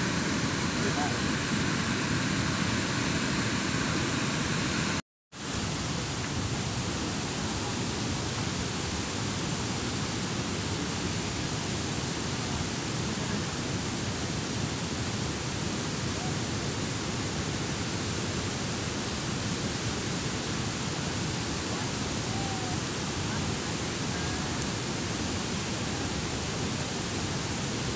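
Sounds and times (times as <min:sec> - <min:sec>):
water rushing through spillway: 0:00.0 - 0:27.9.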